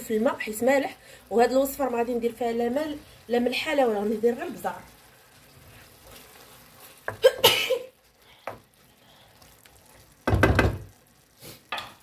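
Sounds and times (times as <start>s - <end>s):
food sizzling: 0.0s - 12.0s
wooden spoon stirring in frying pan: 0.0s - 12.0s.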